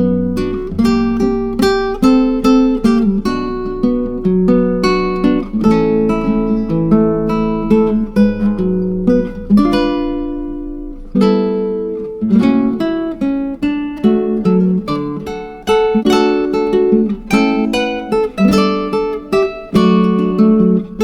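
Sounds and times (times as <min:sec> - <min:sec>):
acoustic guitar plucked and strummed: 0:00.0 - 0:21.0.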